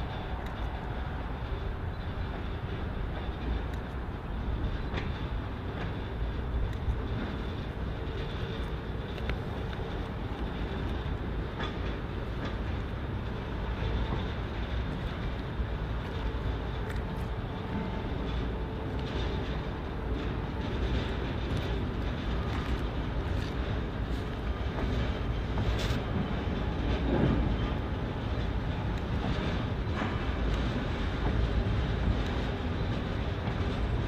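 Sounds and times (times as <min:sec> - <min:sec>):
freight train rumbling by: 0:00.0 - 0:34.0
sharp clicks of train: 0:00.0 - 0:34.0.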